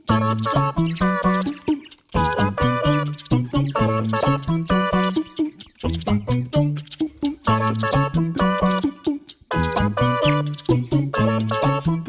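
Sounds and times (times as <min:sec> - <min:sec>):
bouncy background music: 0:00.0 - 0:12.0.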